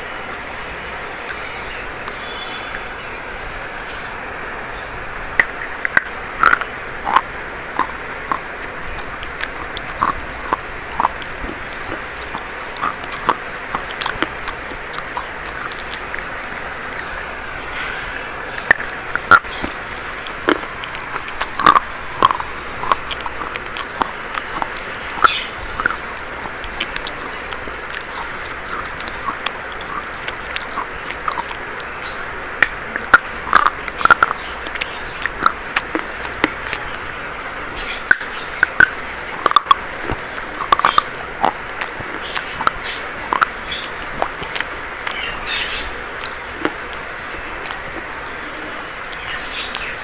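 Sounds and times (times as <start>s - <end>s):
steady hiss: 0.0s - 50.0s
chalk crunching while chewed: 5.4s - 50.0s.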